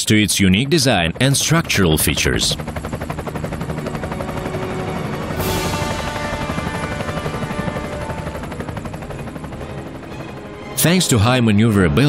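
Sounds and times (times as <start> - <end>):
background music: 0.0 - 12.0
helicopter rotor chop: 0.0 - 12.0.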